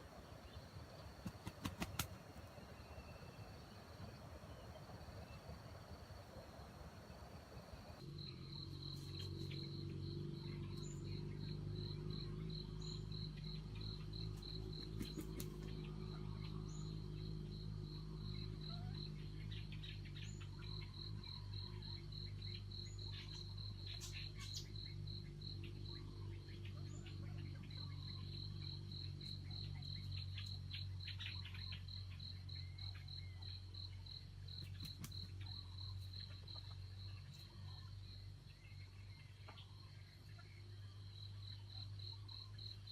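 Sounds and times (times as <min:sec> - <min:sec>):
cricket chirping: 0:00.0 - 0:42.9
faint bird chirps: 0:00.0 - 0:42.9
low steady hum: 0:00.0 - 0:42.9.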